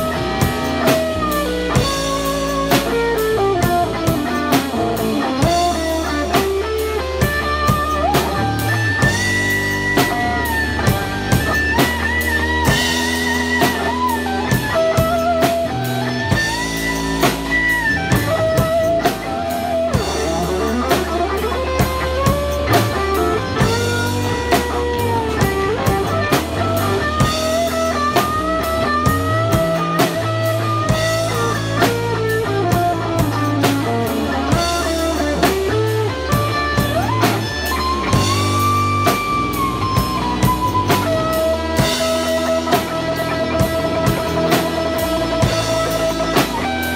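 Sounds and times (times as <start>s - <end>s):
bass guitar: 0.0s - 46.9s
drum kit beat: 0.0s - 46.9s
lead guitar melody: 0.0s - 46.9s.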